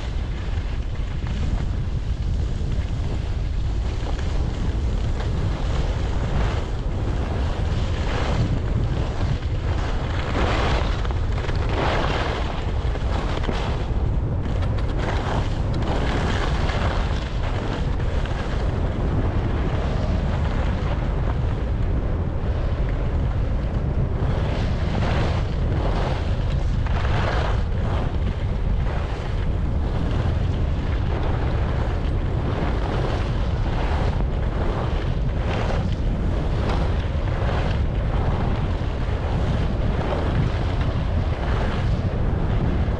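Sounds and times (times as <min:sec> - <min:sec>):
swishing of skis on snow: 0:00.0 - 0:21.4, 0:24.4 - 0:42.9
wind buffeting microphone: 0:00.0 - 0:42.9.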